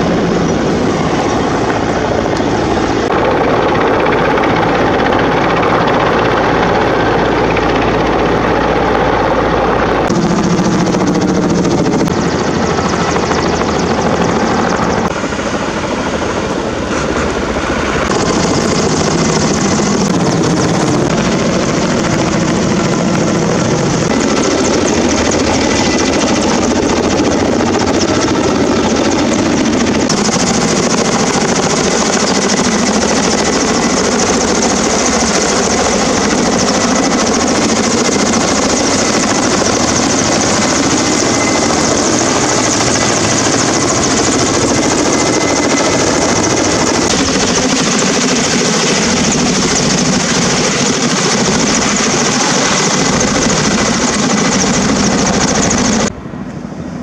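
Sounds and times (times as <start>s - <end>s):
helicopter rotor and turbine noise: 0.0s - 57.0s.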